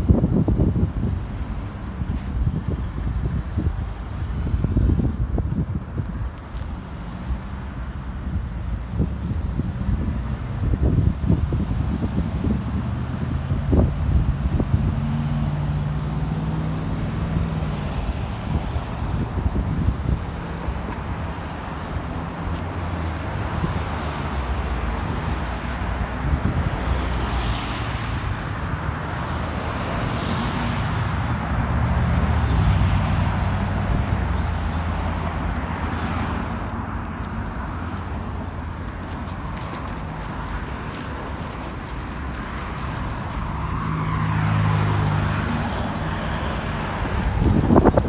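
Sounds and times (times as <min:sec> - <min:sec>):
traffic rumble: 0:00.0 - 0:48.0.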